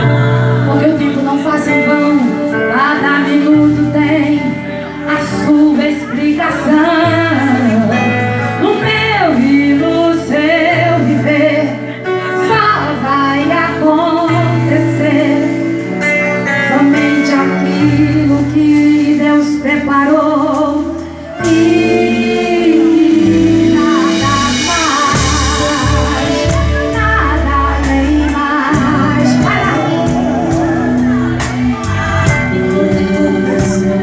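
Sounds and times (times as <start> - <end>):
bass and keyboard: 0.0 - 34.0
woman singing: 0.0 - 34.0.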